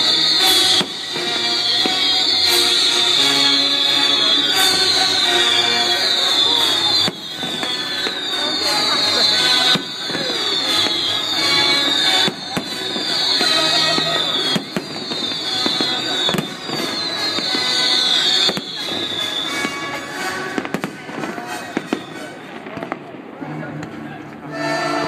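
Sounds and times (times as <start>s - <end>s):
fireworks bursting with bangs: 0.0s - 24.7s
fireworks crackling: 0.0s - 25.0s
music: 0.0s - 25.0s.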